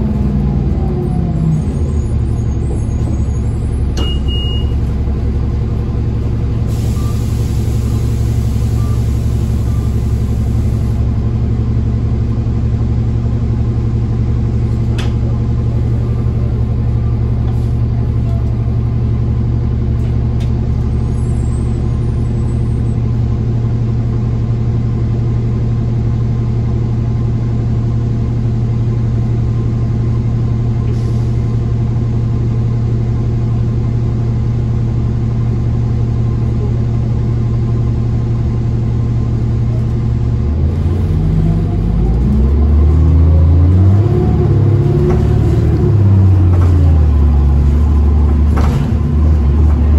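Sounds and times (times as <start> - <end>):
bus engine droning: 0.0 - 49.9.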